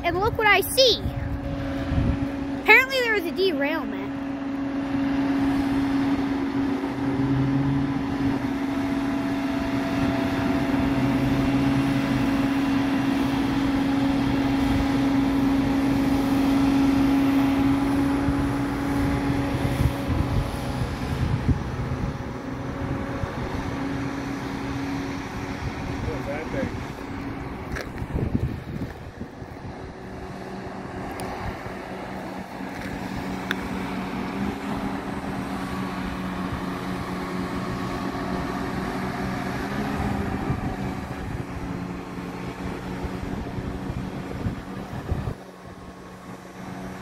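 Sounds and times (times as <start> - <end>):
low engine drone: 0.0 - 47.0.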